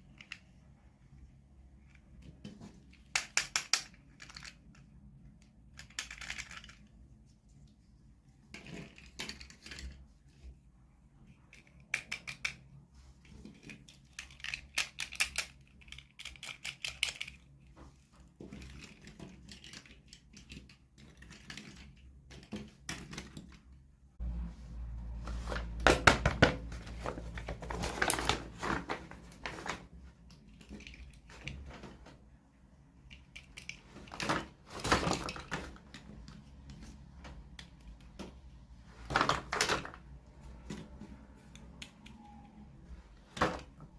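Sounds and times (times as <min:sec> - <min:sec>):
plastic toys clicking and tapping: 0:00.0 - 0:00.7, 0:01.7 - 0:07.1, 0:08.4 - 0:10.5, 0:11.2 - 0:23.8, 0:25.9 - 0:32.2, 0:32.9 - 0:42.6.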